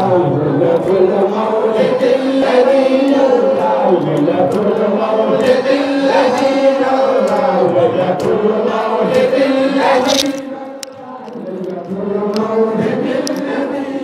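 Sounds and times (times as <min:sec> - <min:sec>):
lead voice chanting on microphone: 0:00.0 - 0:14.0
men chanting: 0:00.0 - 0:14.0.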